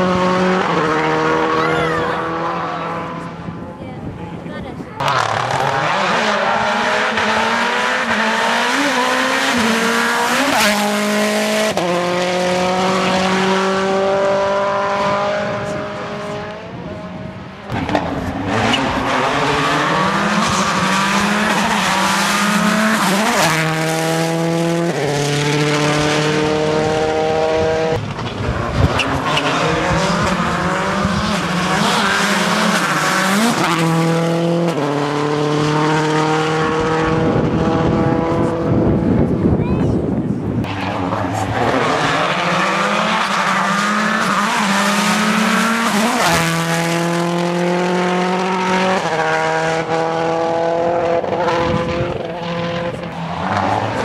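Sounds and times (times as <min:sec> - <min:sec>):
rally car engines revving hard: 0:00.0 - 0:54.0.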